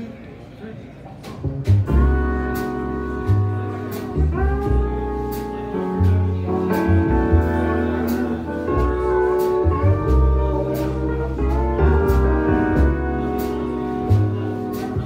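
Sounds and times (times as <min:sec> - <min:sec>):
upright bass: 0:01.2 - 0:15.0.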